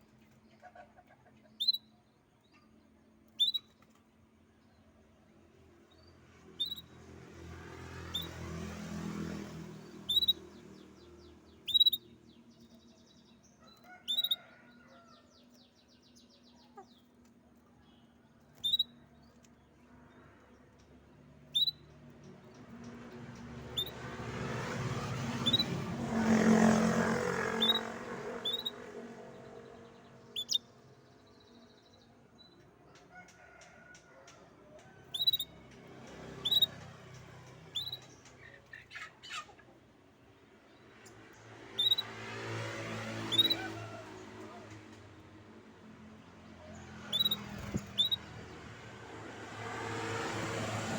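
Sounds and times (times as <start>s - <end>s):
canary chirps: 0.0s - 4.7s, 5.6s - 19.9s, 20.8s - 32.7s, 34.8s - 39.9s, 40.5s - 45.2s, 45.9s - 48.9s
rapid canary trills: 0.0s - 50.3s.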